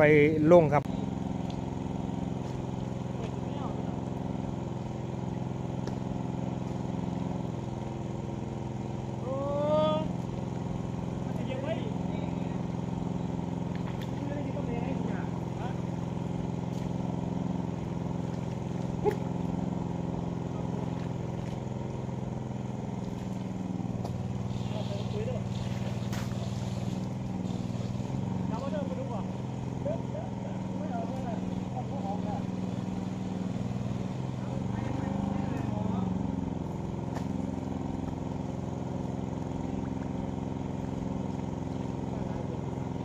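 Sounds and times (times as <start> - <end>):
water pump engine running: 0.0 - 43.0.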